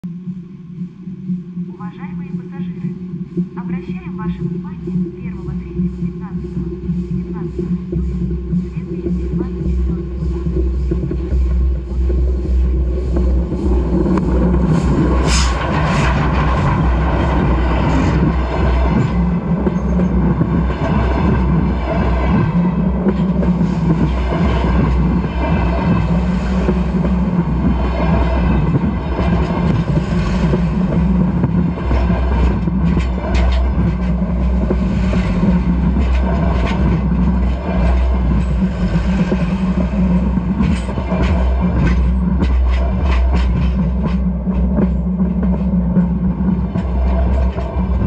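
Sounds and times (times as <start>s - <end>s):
railway carriages rumbling overhead: 2.6s - 48.0s.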